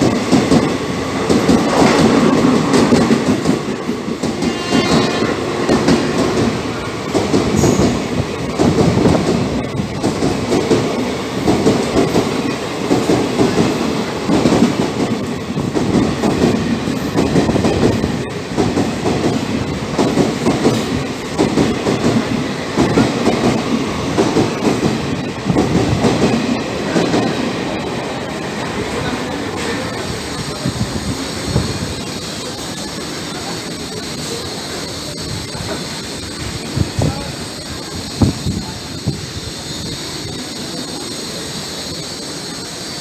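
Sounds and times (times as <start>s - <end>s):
train rolling rumble: 0.0s - 43.0s.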